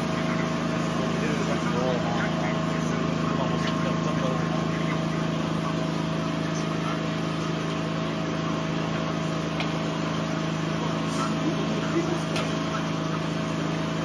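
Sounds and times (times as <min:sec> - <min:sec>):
steady mechanical drone: 0:00.0 - 0:14.0.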